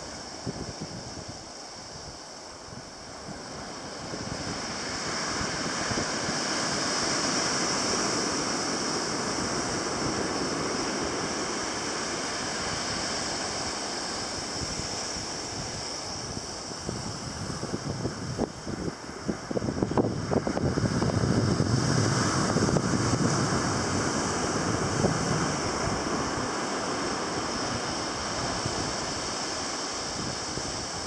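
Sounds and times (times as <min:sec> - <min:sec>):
sea surf washing on shore: 0:00.0 - 0:31.0
wind: 0:00.0 - 0:31.0.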